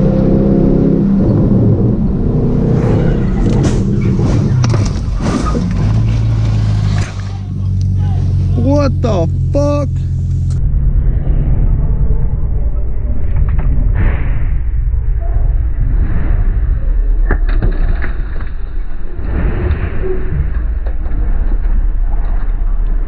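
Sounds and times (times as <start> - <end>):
car engine rumble and road noise: 0.0 - 23.0.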